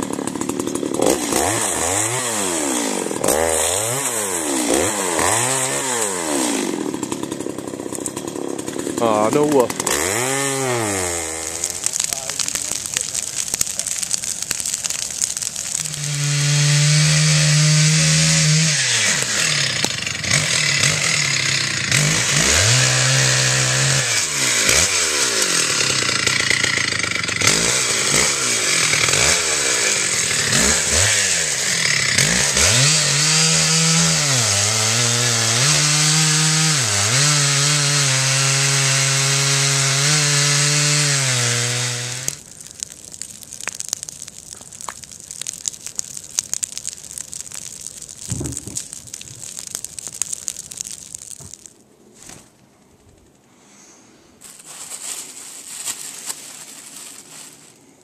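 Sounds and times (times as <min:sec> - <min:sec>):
chainsaw cutting log: 0:00.0 - 0:51.7.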